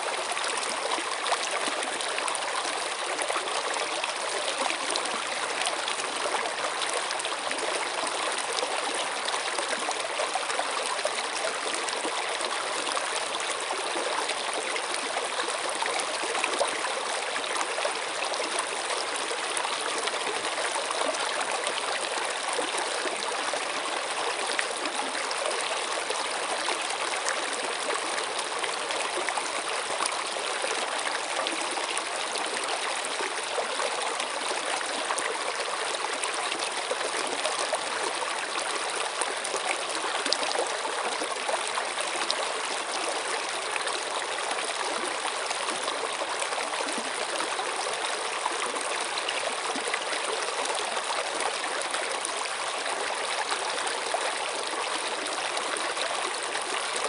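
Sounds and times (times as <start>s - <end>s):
stream water rushing and trickling: 0.0s - 57.0s.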